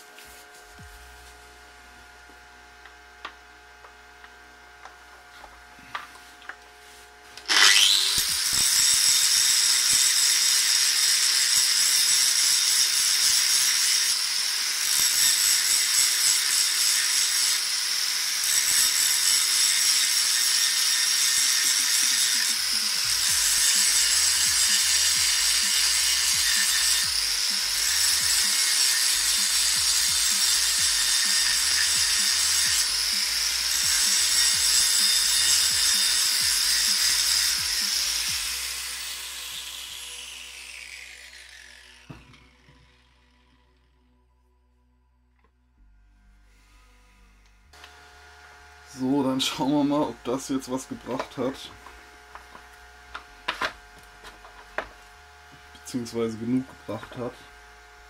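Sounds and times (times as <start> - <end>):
angle grinder grinding metal: 2.8 - 44.0, 46.5 - 58.0.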